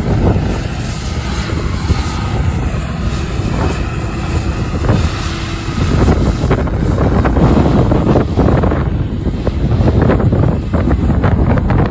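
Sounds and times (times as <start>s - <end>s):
combine harvester drone: 0.0s - 11.9s
wind buffeting microphone: 0.0s - 11.9s.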